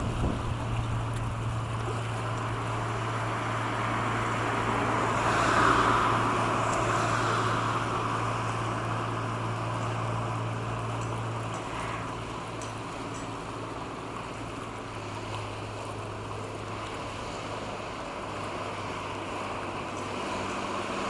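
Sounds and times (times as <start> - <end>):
boat engine droning: 0.0 - 21.0
water rushing from boat wake: 0.0 - 21.0.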